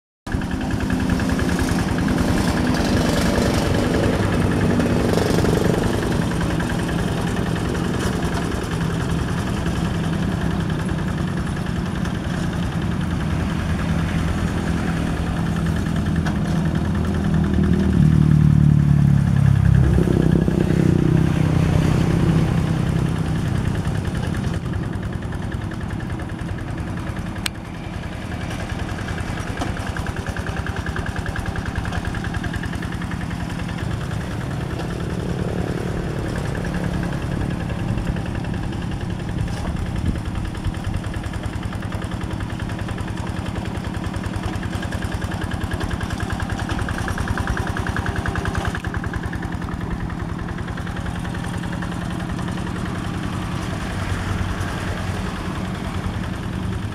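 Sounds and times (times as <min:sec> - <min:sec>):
diesel tractor engine running: 0:00.3 - 0:56.9.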